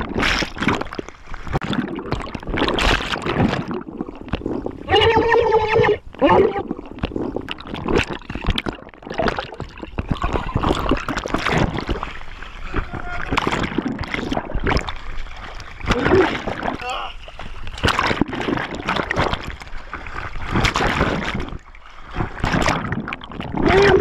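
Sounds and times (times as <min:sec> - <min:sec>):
water churning and gurgling underwater: 0:00.0 - 0:24.0.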